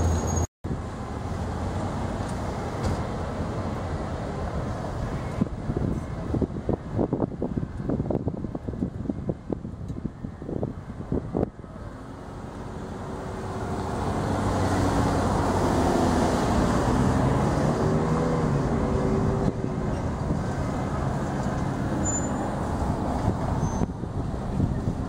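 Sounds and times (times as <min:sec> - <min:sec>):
wind gusts on microphone: 0:03.5 - 0:25.0.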